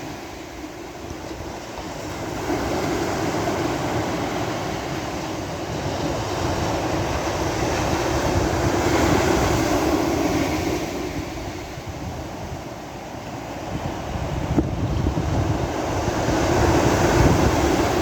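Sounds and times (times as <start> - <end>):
sea waves washing on a beach: 0.0 - 18.0.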